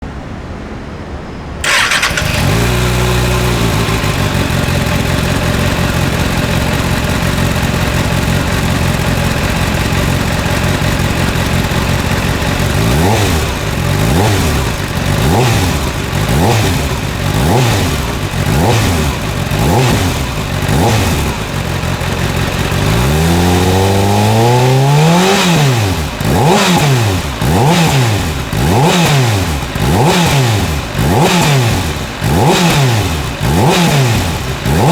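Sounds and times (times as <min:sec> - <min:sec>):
motorcycle engine idling and revving: 0:01.6 - 0:34.9.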